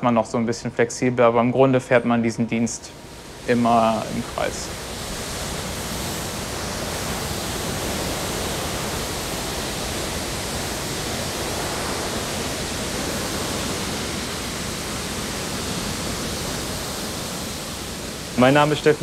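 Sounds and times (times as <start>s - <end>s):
churning water rushing: 0.9s - 19.0s.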